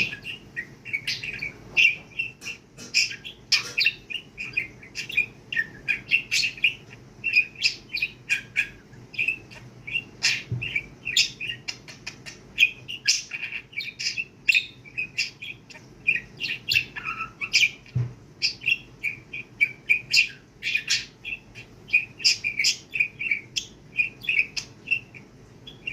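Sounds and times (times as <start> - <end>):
budgerigar chattering: 0.0 - 25.9.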